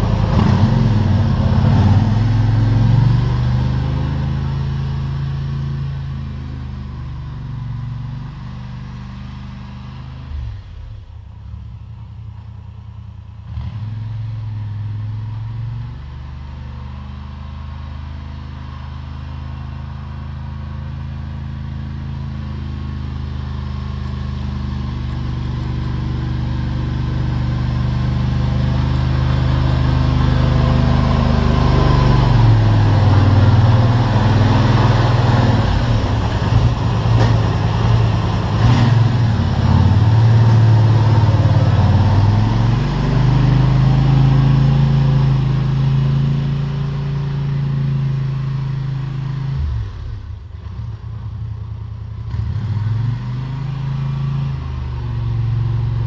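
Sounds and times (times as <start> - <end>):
quad engine running: 0.0 - 11.8, 13.4 - 56.0.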